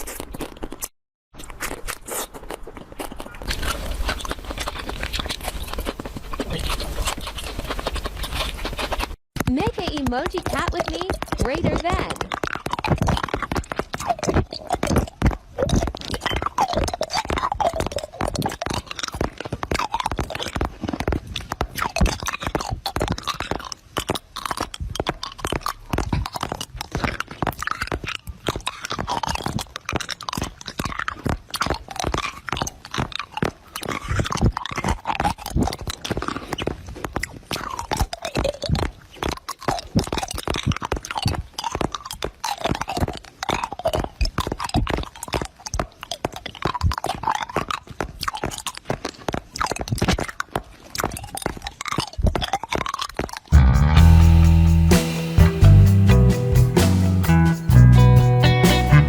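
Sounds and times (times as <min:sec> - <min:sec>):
chewing crisp food: 0:00.0 - 0:54.5.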